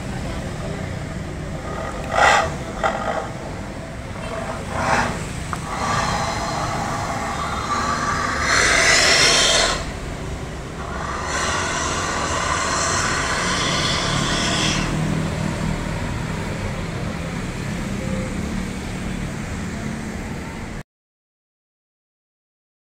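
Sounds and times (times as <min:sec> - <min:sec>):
cars and motorbikes passing: 0:00.0 - 0:20.8.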